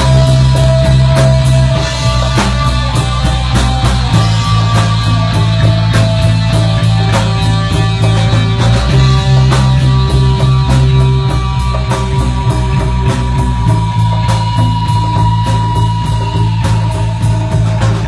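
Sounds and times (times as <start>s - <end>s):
distorted guitar: 0.0s - 18.0s
rock music: 0.0s - 18.0s
steady drum beat: 0.0s - 18.0s.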